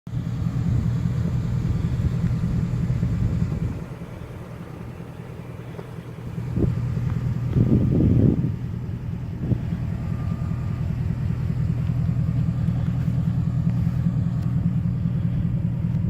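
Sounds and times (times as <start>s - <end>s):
vehicle engine idling: 0.1s - 16.0s.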